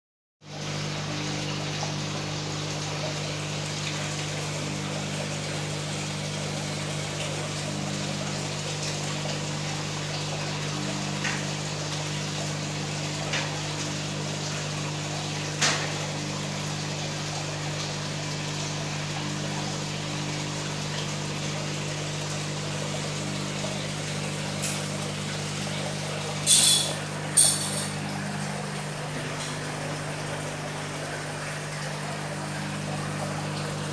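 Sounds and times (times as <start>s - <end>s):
aquarium pump humming: 0.4s - 33.9s
water wash: 0.4s - 33.9s.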